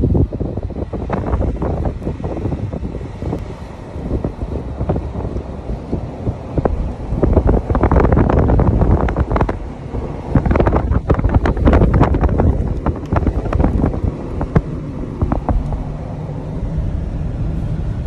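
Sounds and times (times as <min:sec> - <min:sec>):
vehicle driving rumble: 0:00.0 - 0:18.0
wind buffeting microphone: 0:00.0 - 0:18.0.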